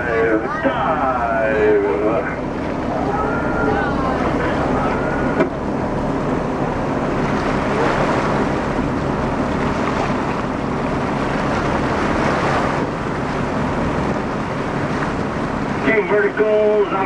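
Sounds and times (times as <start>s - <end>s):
boat engine hum: 0.0s - 17.0s
water washing: 0.0s - 17.0s.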